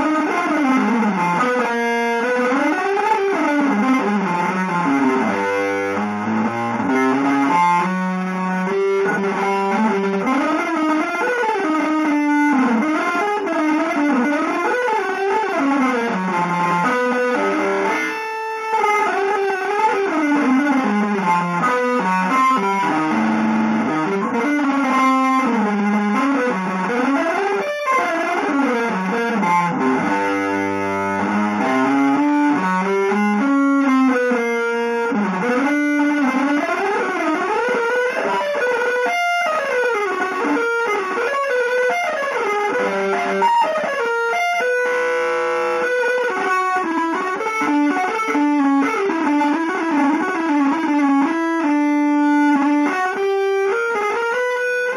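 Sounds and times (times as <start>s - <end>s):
electric guitar fast runs: 0.0s - 54.9s.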